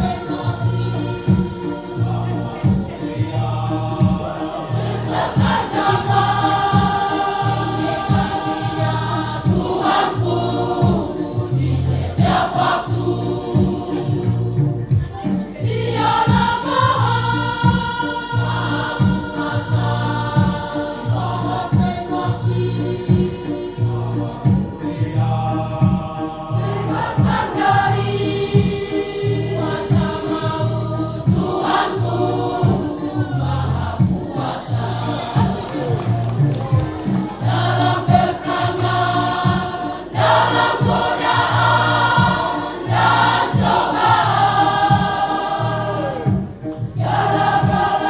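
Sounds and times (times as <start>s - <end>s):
choir singing: 0.0s - 48.0s
low-pitched beat: 0.0s - 48.0s.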